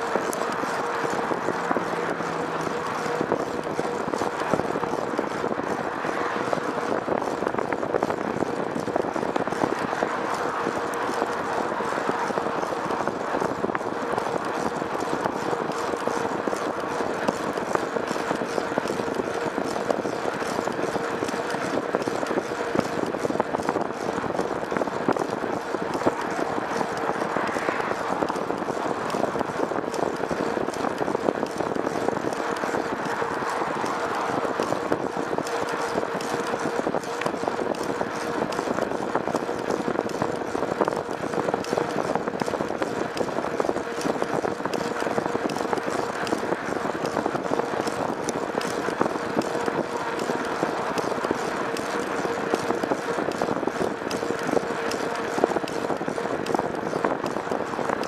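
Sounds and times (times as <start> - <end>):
moving vehicle rattle and hum: 0.0 - 58.0.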